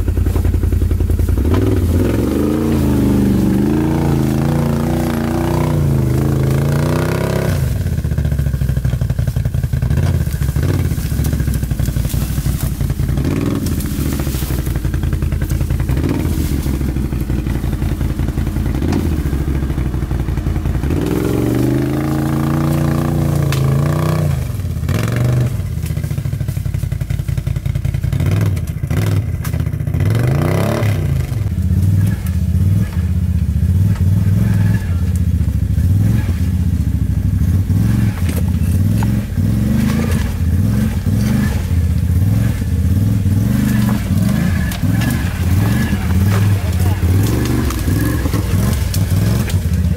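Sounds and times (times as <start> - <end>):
brush scraping against vehicle: 0.0 - 29.6, 31.2 - 49.9
quad engine revving: 0.0 - 49.9.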